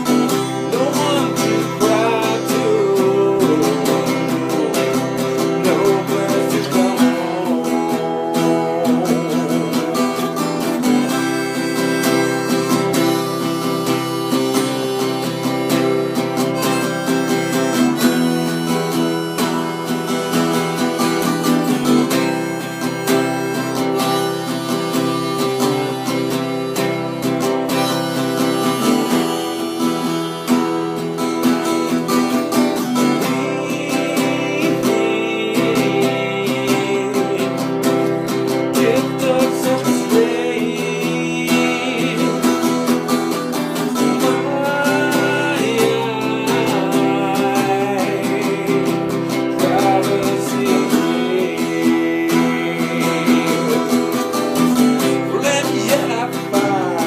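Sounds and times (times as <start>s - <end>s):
acoustic guitar music: 0.0s - 57.0s
harmonica melody: 0.0s - 57.0s.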